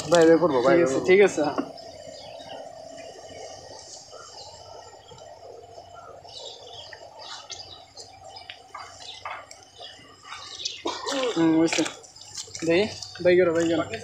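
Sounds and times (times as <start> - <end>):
outdoor background noise: 0.0 - 14.0
small birds chirping: 0.0 - 14.0.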